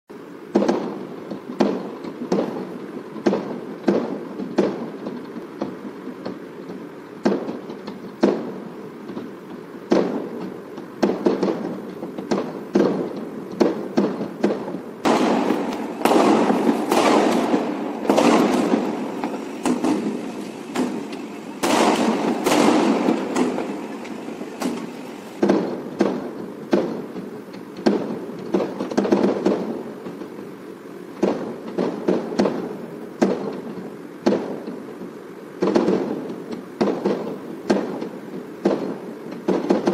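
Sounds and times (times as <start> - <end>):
fireworks crackling: 0.2 - 39.9
fireworks bangs: 0.4 - 30.6, 31.2 - 39.9.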